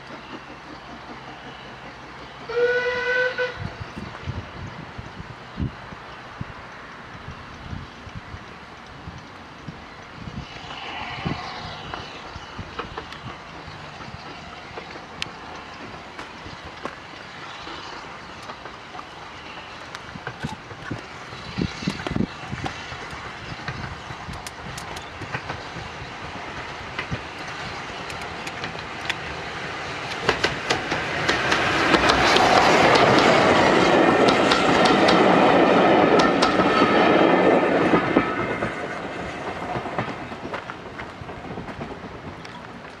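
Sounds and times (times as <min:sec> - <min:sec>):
steam train passing: 0:00.0 - 0:43.0
wheels clicking over rail joints: 0:06.0 - 0:11.1, 0:11.8 - 0:43.0.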